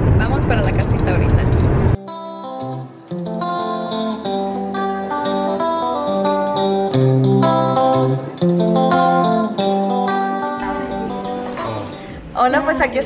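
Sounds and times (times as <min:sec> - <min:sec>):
guitar music: 0:01.9 - 0:13.0.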